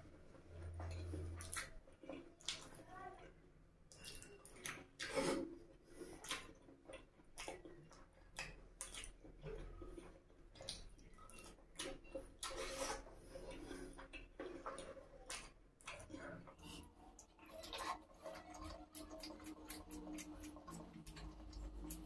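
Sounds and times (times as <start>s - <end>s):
wet chewing and mouth smacking: 0.5s - 22.0s.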